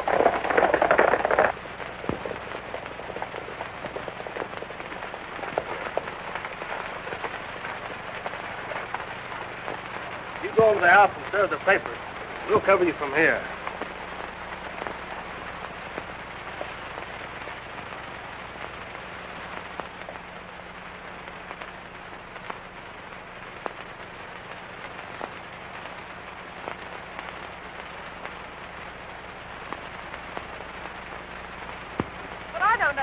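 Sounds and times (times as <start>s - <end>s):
old film surface noise: 0.0s - 33.0s.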